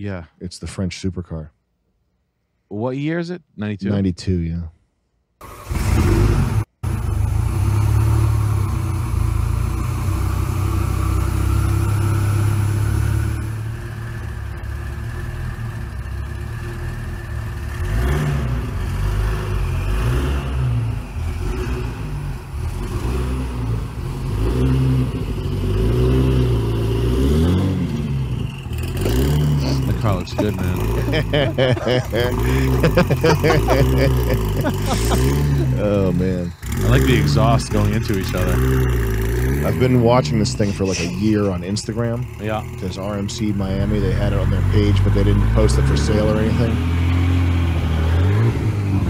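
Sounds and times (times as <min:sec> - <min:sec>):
car engine revving: 0:05.4 - 0:49.0.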